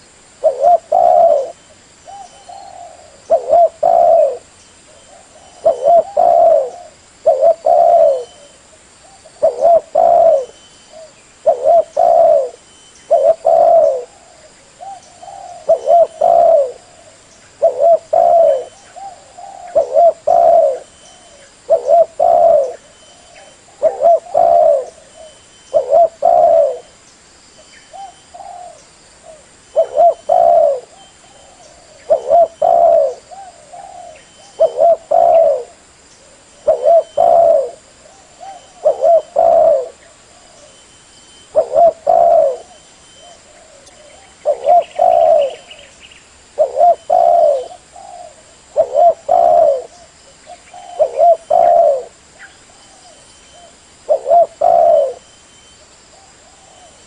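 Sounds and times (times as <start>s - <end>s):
dove cooing: 0.0s - 27.0s, 27.9s - 45.9s, 46.5s - 57.0s.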